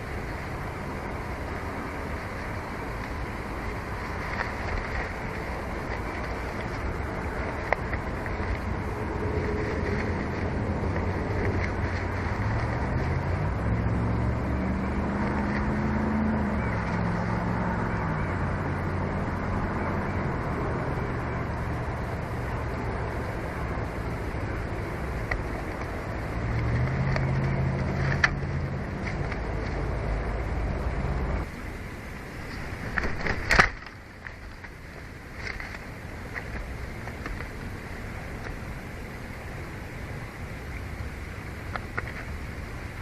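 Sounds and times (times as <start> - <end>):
distant engine drone: 0.0 - 43.0
wind noise: 0.0 - 43.0.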